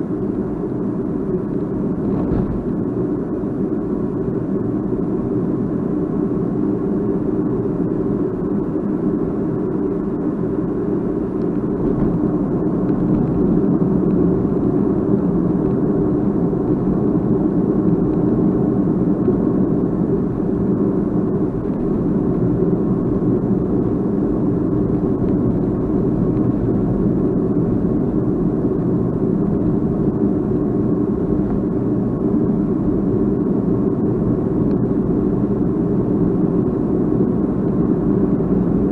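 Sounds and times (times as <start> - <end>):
vehicle rumbling in motion: 0.0 - 38.9.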